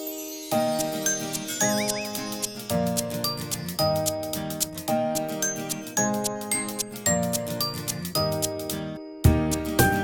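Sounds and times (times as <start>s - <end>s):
chiming bell-like music with beat: 0.0s - 4.4s, 5.2s - 10.0s.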